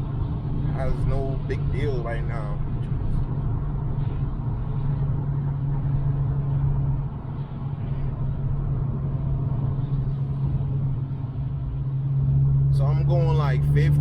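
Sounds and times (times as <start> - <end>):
car interior drone: 0.0 - 14.0.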